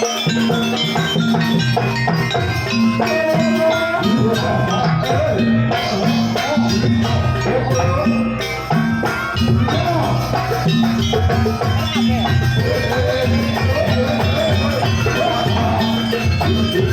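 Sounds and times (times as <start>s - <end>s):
gamelan ensemble music: 0.0s - 16.9s
repeating drum pattern: 0.0s - 16.9s.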